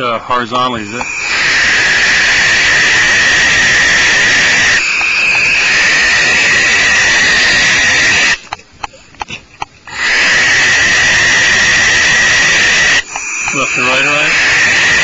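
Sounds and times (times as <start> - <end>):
barn owls hissing: 0.6 - 8.6, 9.2 - 15.0.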